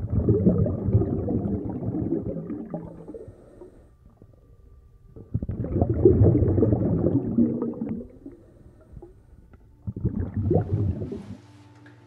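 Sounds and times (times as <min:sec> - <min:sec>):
low rumbling crackling noise: 0:00.0 - 0:11.4.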